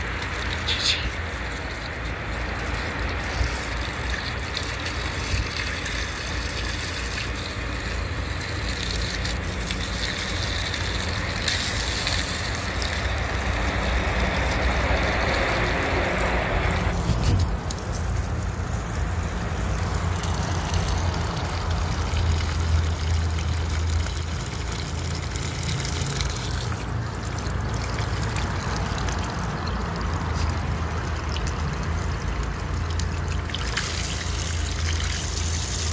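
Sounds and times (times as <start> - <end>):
hose spraying water mist: 0.0 - 32.0, 33.5 - 35.9.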